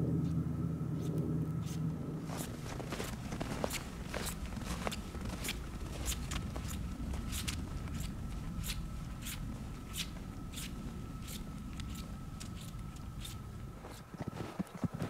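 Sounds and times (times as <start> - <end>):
footsteps on snow: 1.6 - 15.0.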